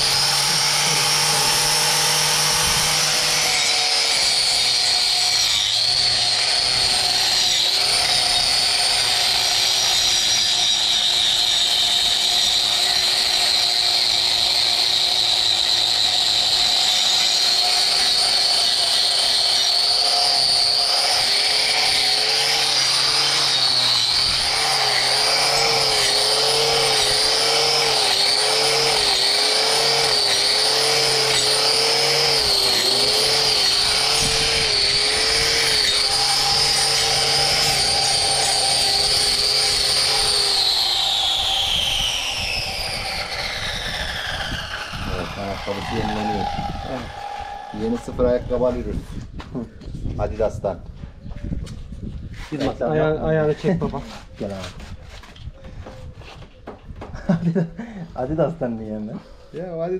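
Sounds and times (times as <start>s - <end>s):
angle grinder on hoof: 0.0s - 50.6s, 51.4s - 59.8s.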